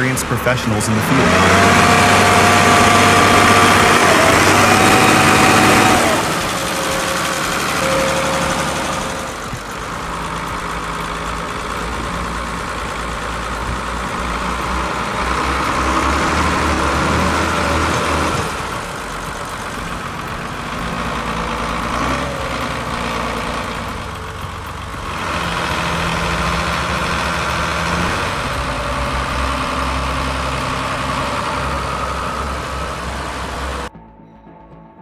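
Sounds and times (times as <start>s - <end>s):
heavy vehicle engine running: 0.0s - 33.9s.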